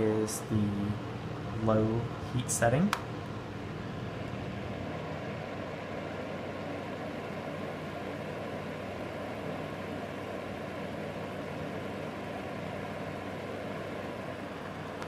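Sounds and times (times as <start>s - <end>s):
space heater fan whirring: 0.0s - 15.0s.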